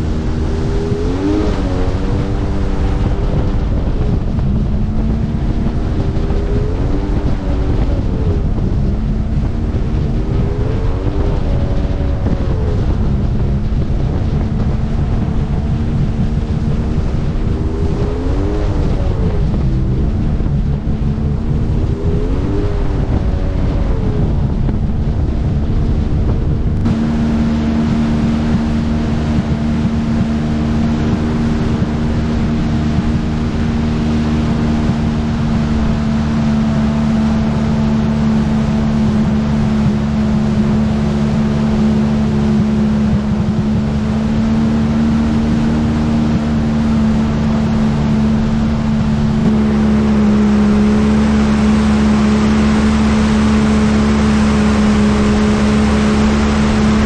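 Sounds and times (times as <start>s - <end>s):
jet ski engine running: 0.0s - 57.0s
water rushing and spraying: 0.0s - 57.0s
wind on microphone: 0.0s - 57.0s.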